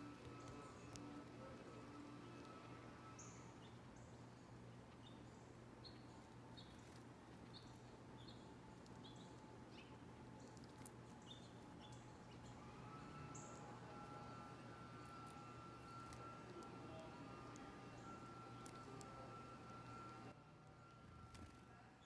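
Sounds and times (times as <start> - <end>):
fledgling woodpecker begging chirps: 0.1 - 20.2.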